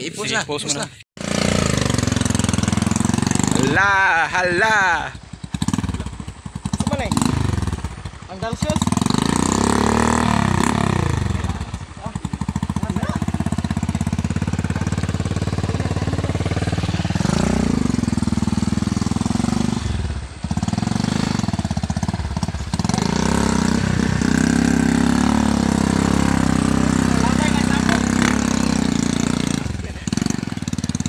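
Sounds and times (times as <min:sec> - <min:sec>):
motorcycle engine labouring uphill: 0:01.2 - 0:31.0.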